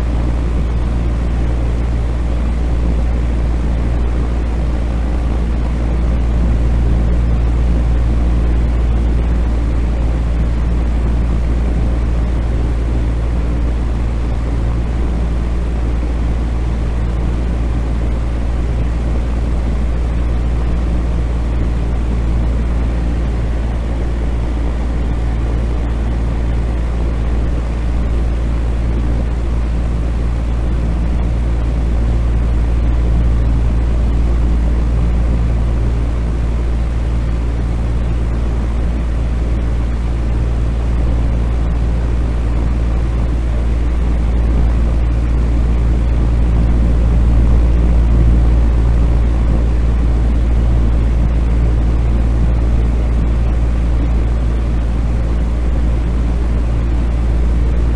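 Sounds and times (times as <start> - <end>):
ventilation fan humming: 0.0 - 57.9.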